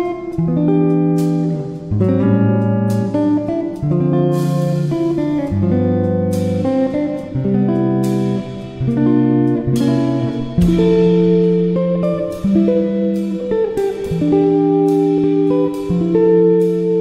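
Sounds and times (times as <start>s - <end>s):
instrumental music with beats: 0.0s - 17.0s.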